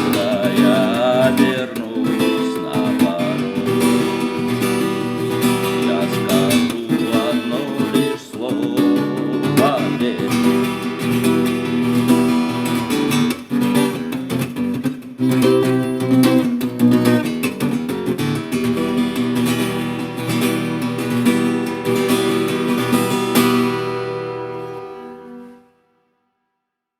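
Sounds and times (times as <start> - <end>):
strummed acoustic guitar music: 0.0 - 26.0.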